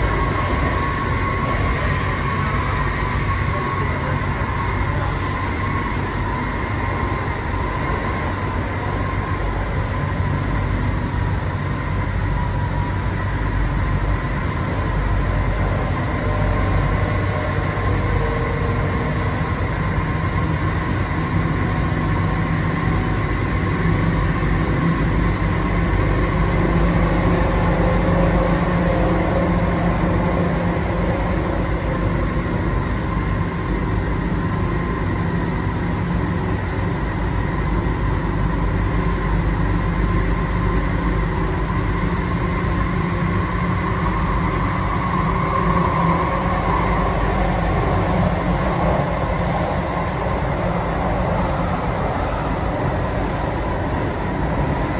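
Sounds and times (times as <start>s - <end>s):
wheels rumbling on rail: 0.0s - 54.9s.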